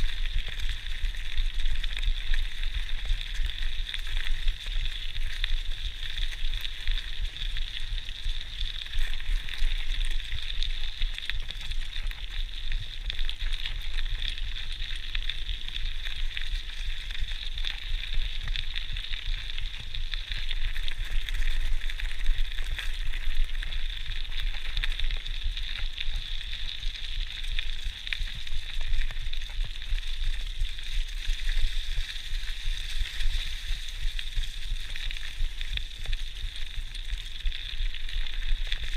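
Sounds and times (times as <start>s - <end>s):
bike tyres crackling on leaves: 0.0s - 38.9s.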